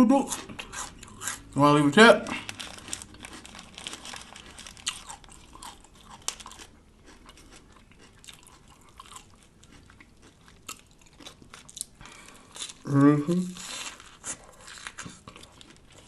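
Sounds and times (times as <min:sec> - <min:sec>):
person chewing crunchy food: 0:00.2 - 0:01.6, 0:02.2 - 0:16.0.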